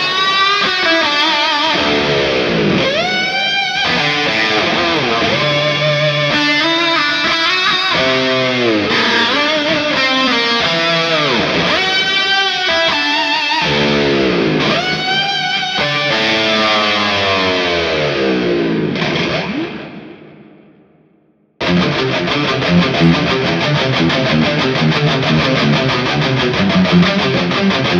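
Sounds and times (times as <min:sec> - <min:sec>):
distorted electric guitar lead: 0:00.0 - 0:27.9.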